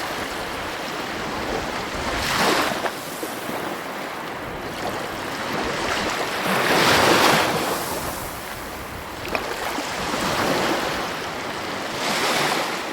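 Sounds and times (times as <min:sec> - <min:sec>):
sea waves breaking: 0:00.0 - 0:12.9.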